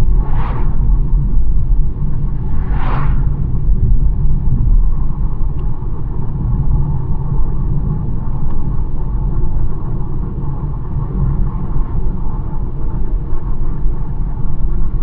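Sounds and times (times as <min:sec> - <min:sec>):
car engine and tyre noise: 0:00.0 - 0:13.3.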